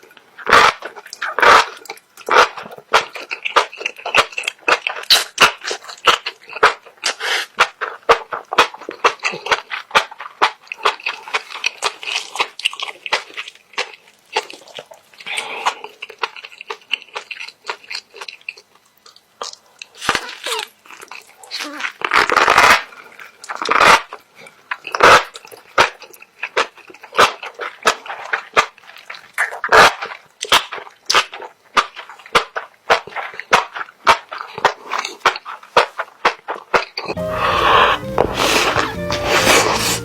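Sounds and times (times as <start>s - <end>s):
chewing with wet crunches: 0.0s - 37.2s.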